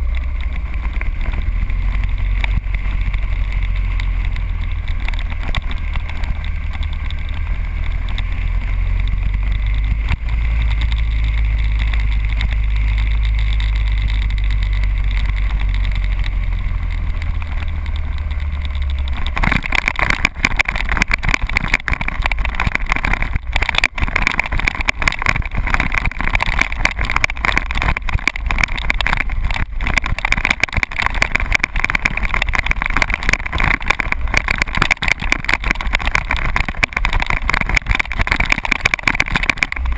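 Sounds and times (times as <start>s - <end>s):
gravel clicking under tyres: 0.0s - 39.9s
motorcycle engine: 0.0s - 39.9s
wind rumble on microphone: 0.0s - 39.9s.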